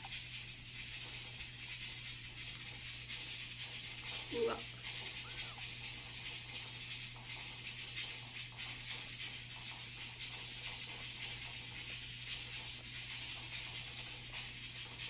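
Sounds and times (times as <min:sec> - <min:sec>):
background hiss: 0:00.0 - 0:15.0
faint soft rustles: 0:00.0 - 0:15.0.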